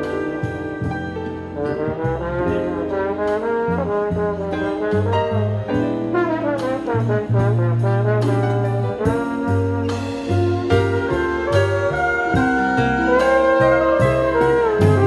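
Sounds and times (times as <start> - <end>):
bass line: 0.0 - 15.0
trombone jazz melody: 0.0 - 15.0.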